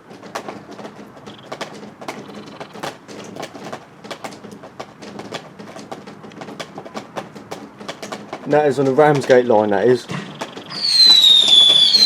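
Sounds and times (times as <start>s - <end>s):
distant fireworks popping: 0.0s - 12.0s.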